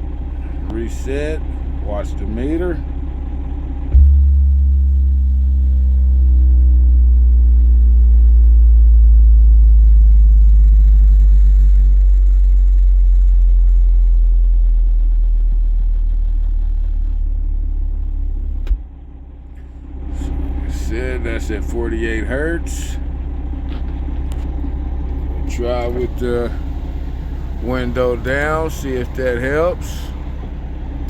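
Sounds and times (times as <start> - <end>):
bass frequency sweep: 0.0 - 31.0.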